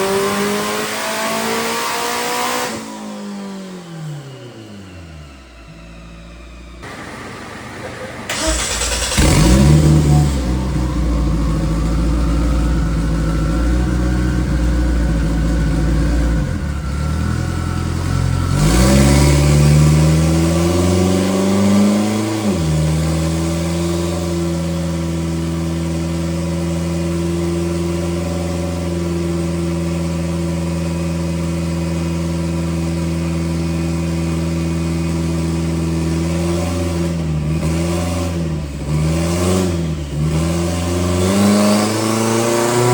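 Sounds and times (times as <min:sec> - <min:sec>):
race car engine revving: 0:00.0 - 0:03.0, 0:03.8 - 0:31.1, 0:33.6 - 0:42.9.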